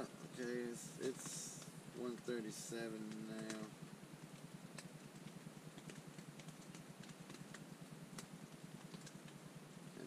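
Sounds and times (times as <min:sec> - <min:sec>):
rain hiss on tent: 0:00.0 - 0:10.0
drops ticking on fabric: 0:01.0 - 0:09.5.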